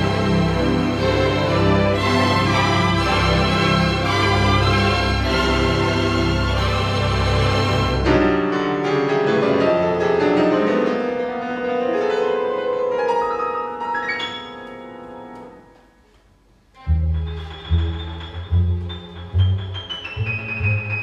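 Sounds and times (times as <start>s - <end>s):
classical piano with strings: 0.0s - 21.0s.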